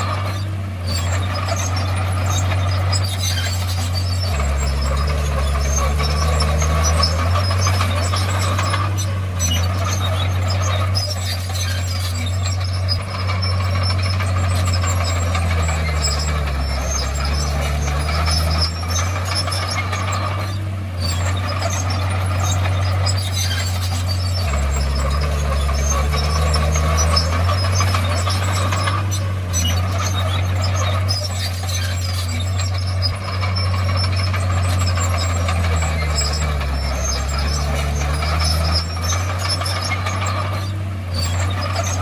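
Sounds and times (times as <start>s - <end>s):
bulldozer diesel engine running: 0.0s - 42.0s.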